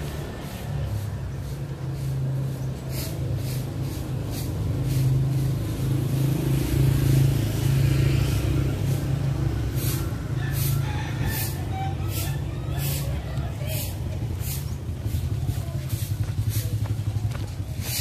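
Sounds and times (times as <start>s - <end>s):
traffic engines humming: 0.0s - 18.0s.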